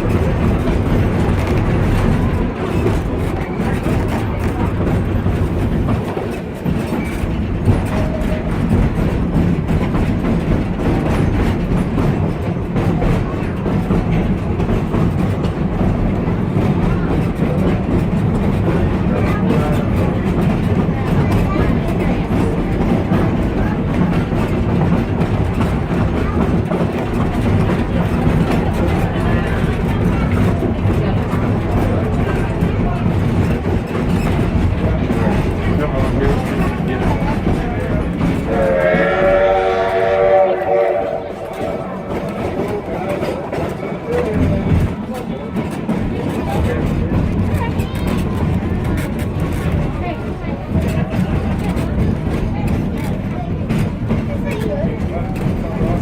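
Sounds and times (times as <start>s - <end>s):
train rumbling on track: 0.0s - 56.0s
wheels clicking on rails: 0.0s - 56.0s.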